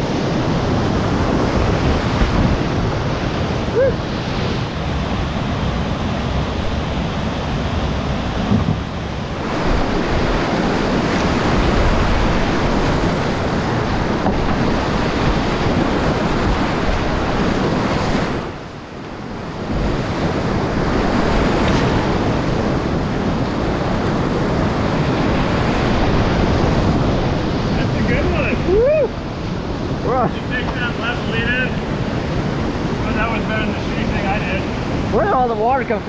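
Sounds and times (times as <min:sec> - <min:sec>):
whitewater rapids rushing: 0:00.0 - 0:36.0.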